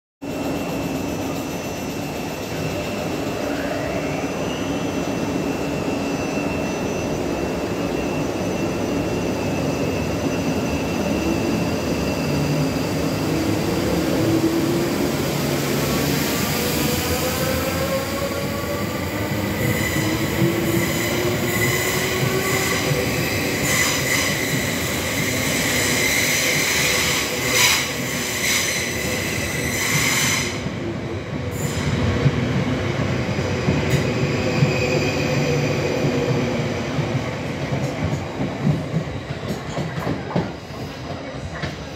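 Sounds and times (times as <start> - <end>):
rumble of wheels on rail: 0.3 - 41.9.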